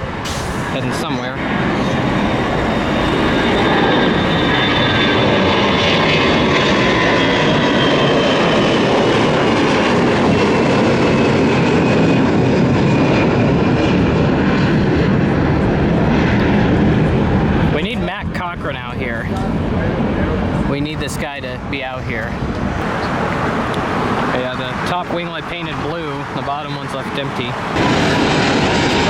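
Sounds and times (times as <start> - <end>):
high jet engine whine: 0.0 - 29.0
jet engines rumbling: 0.0 - 29.0.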